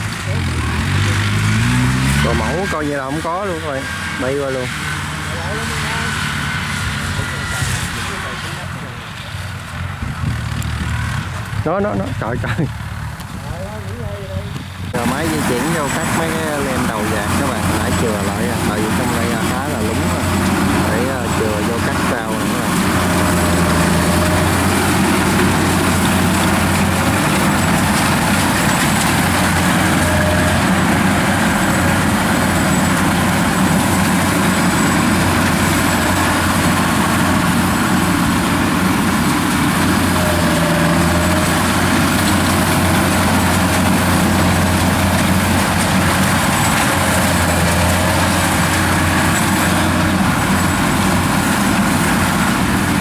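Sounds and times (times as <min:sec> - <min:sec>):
combine harvester engine humming: 0:00.0 - 0:53.0.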